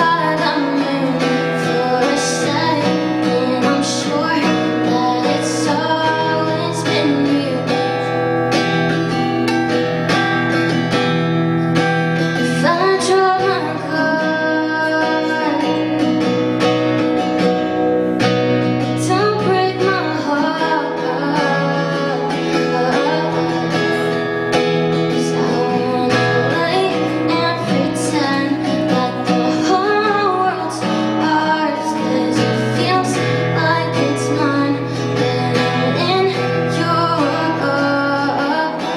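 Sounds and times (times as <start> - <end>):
woman singing: 0.0 - 10.9, 11.8 - 38.9
guitar accompaniment: 0.0 - 38.9.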